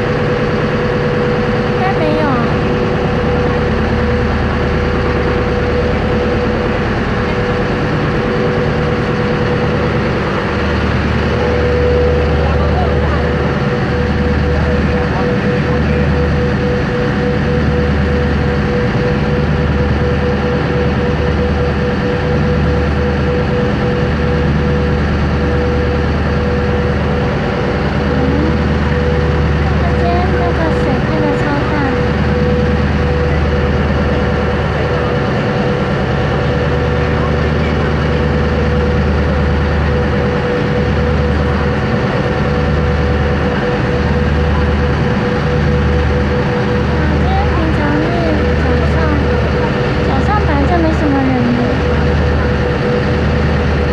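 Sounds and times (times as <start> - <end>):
large engine droning: 0.0 - 53.9.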